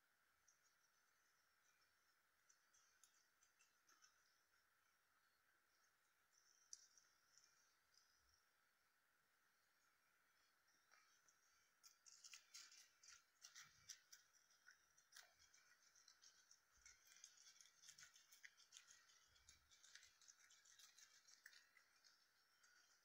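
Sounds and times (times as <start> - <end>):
guinea pigs chewing leaves: 0.0 - 8.7, 9.7 - 23.0.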